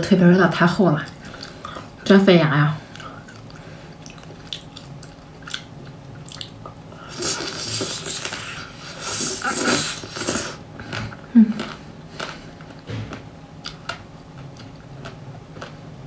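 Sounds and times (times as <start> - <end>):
biting and wet chewing: 1.0 - 2.1, 2.8 - 15.9.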